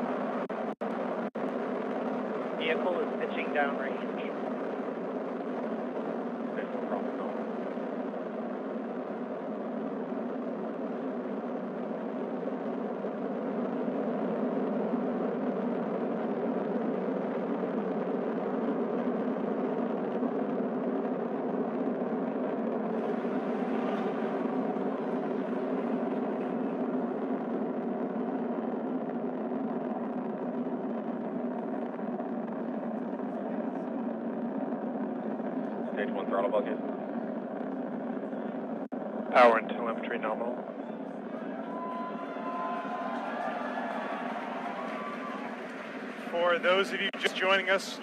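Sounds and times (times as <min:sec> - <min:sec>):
rocket engines roaring: 0:00.0 - 0:48.0.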